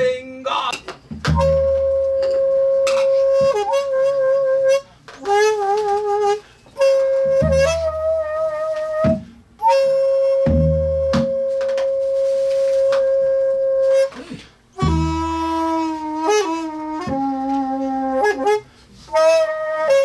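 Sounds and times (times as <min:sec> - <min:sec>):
bamboo flute playing solo: 0:01.2 - 0:20.0.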